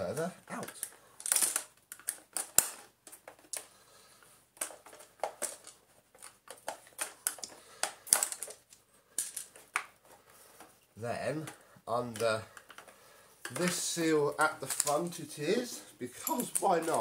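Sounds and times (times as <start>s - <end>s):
plastic parts clicking: 0.1s - 3.7s, 4.6s - 10.7s, 11.4s - 15.2s, 16.2s - 17.0s.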